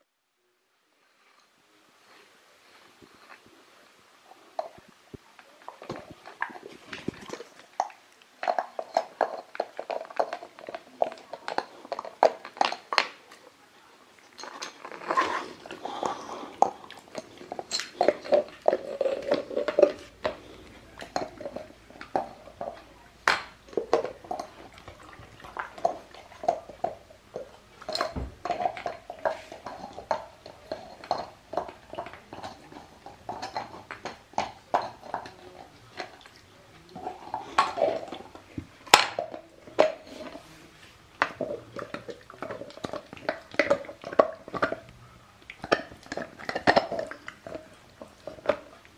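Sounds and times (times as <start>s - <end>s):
puppy gnawing a chew: 4.5s - 48.9s.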